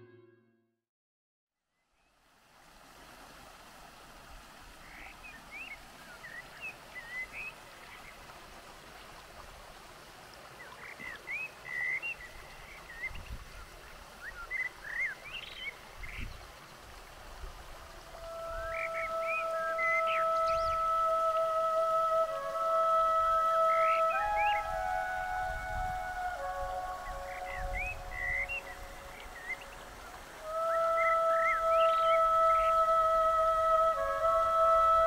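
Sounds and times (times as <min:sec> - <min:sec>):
mountain stream over rocks: 0:02.0 - 0:35.0.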